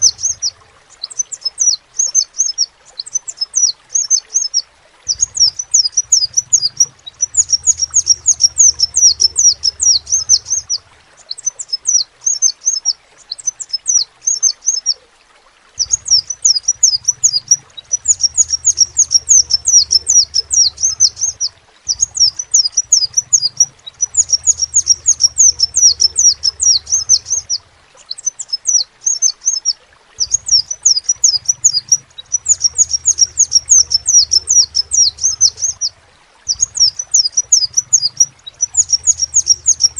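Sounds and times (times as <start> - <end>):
bird twittering song: 0.0 - 15.0, 15.8 - 39.9.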